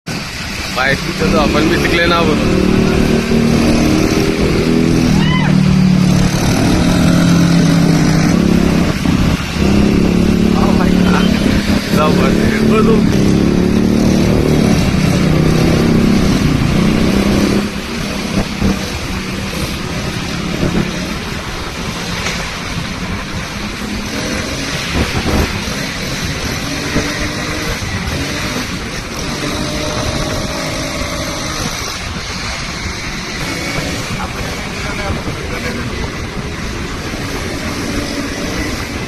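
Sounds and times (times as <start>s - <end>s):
motorcycle engine running: 0.1s - 39.0s
rushing noise of riding: 0.1s - 39.0s.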